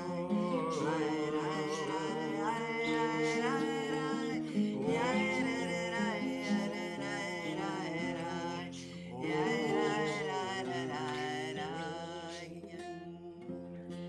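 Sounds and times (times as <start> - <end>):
plucked strings accompaniment: 0.0 - 12.0
person singing: 0.0 - 14.0.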